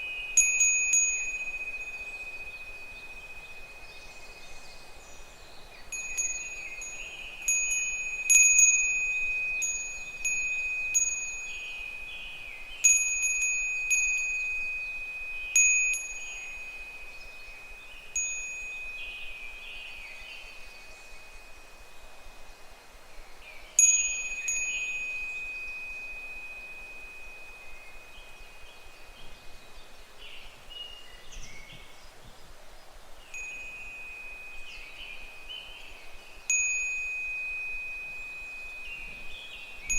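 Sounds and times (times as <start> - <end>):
wind bell ringing: 0.0 - 5.3, 5.9 - 21.9, 23.8 - 29.2, 33.3 - 39.9.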